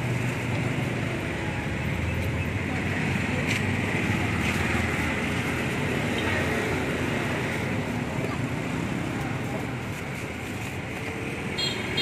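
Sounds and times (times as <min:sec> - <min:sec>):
street background noise: 0:00.0 - 0:12.0.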